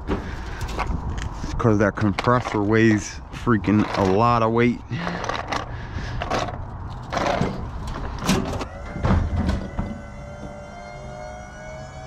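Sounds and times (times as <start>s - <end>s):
scrap metal knocking and scraping: 0.0s - 10.0s.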